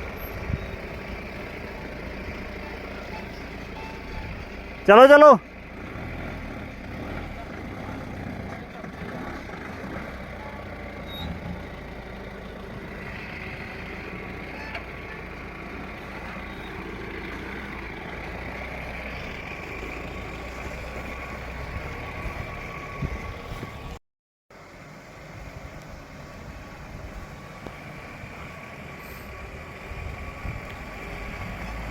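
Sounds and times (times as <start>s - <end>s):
truck engine running: 0.0s - 31.9s.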